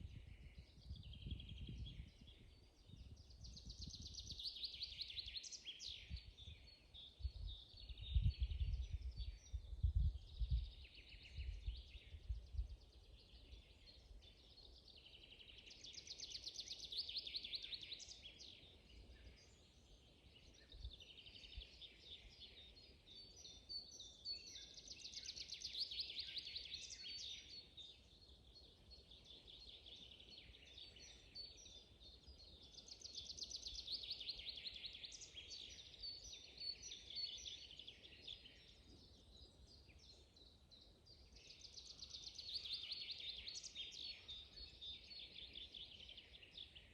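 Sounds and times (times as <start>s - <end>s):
forest songbirds singing: 0.0s - 46.9s
trilling bird song: 0.0s - 46.9s.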